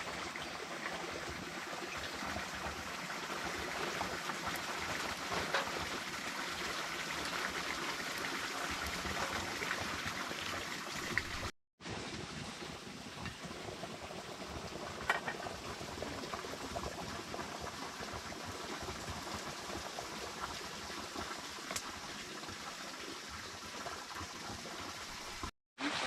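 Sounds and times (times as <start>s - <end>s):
pot of liquid boiling: 0.0s - 26.0s.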